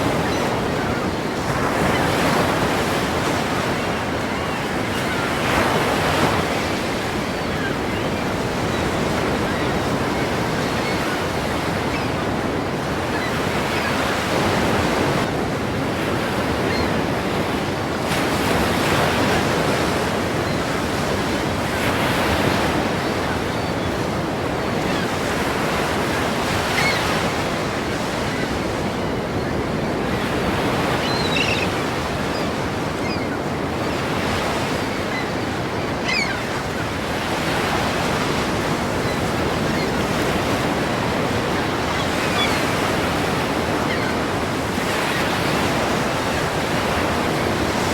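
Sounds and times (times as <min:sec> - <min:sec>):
waves breaking against pier: 0:00.0 - 0:47.9.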